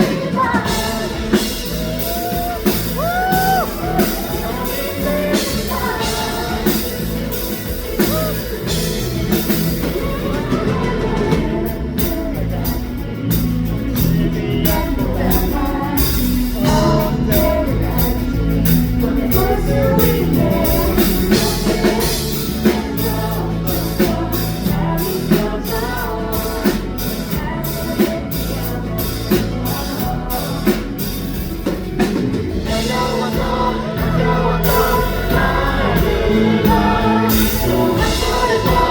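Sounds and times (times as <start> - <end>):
rock band playing live: 0.0 - 38.9
woman singing: 0.0 - 38.9.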